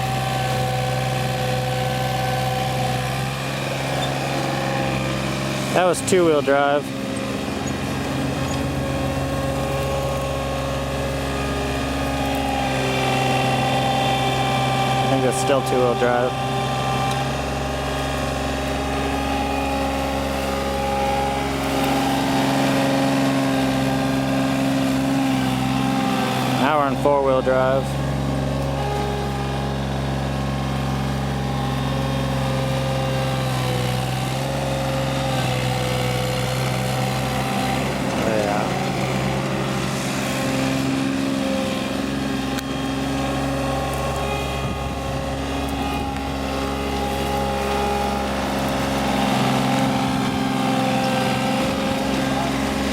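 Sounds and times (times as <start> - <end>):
diesel mower engine running: 0.0 - 52.9.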